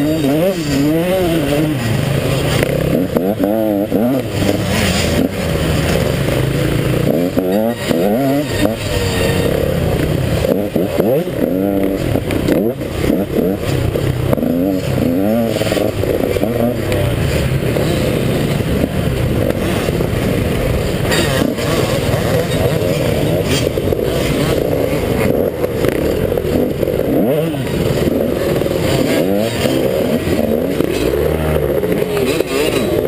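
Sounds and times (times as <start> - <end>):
bike rattling over rough ground: 0.0 - 33.0
dirt bike engine revving: 0.0 - 33.0.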